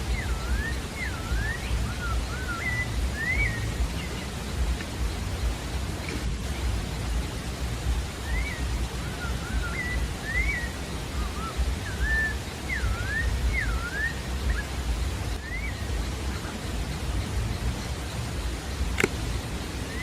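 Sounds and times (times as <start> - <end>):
thrush singing whistled phrases: 0.0 - 6.0, 6.6 - 20.0
low rumble: 0.0 - 20.0
steady hiss: 0.0 - 20.0.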